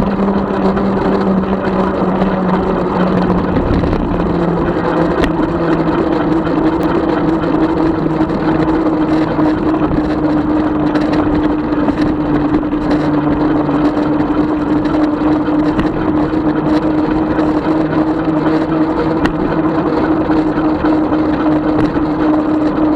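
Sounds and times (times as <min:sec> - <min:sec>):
electric motor hum: 0:00.0 - 0:22.9
wind and road noise: 0:00.0 - 0:22.9.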